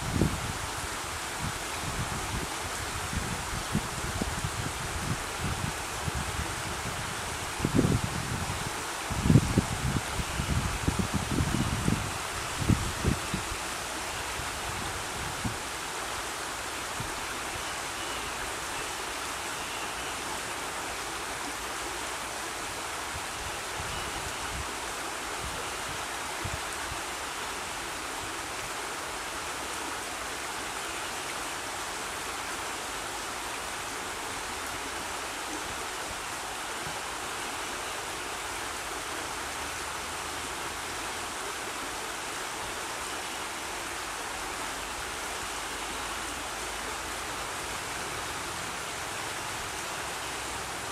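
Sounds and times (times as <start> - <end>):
river water rushing over rocks: 0.0 - 50.9.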